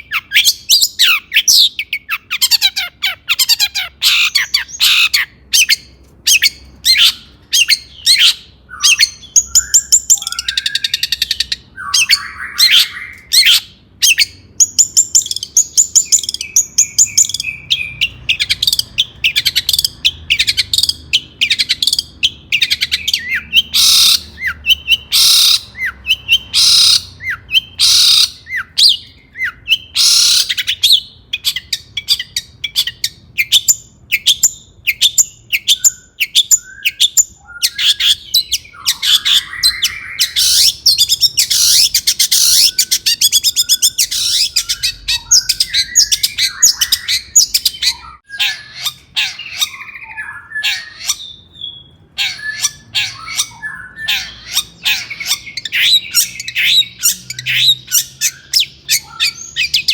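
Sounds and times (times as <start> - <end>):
bird singing with chirps and trills: 0.0 - 59.9.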